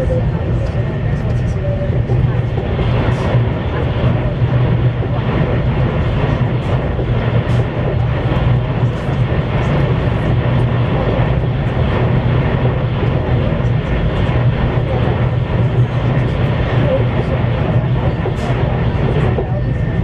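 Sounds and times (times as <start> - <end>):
low hum: 0.0 - 20.0
train wheels rumbling: 0.0 - 20.0.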